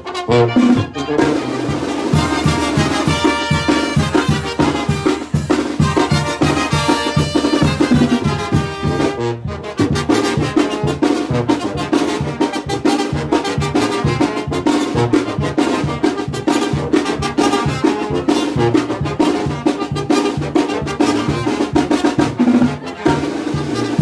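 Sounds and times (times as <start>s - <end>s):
trumpets and trombones: 0.0s - 24.0s.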